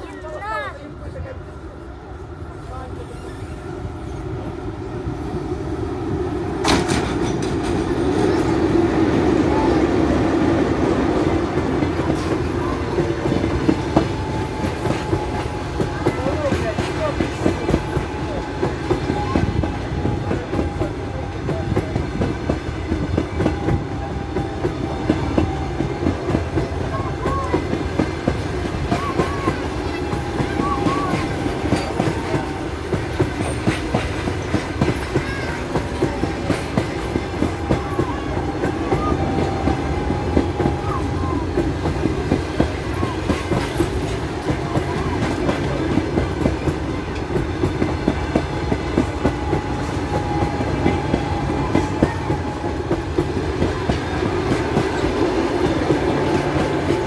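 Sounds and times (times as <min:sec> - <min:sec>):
train coaches rumbling past: 0:00.0 - 0:57.0
wheels clicking over rail joints: 0:06.6 - 0:09.3, 0:11.1 - 0:57.0.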